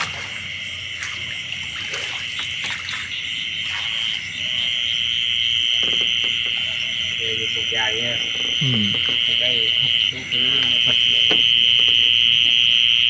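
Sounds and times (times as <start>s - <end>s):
frogs calling: 0.0s - 13.0s
insects chirping: 0.0s - 13.0s.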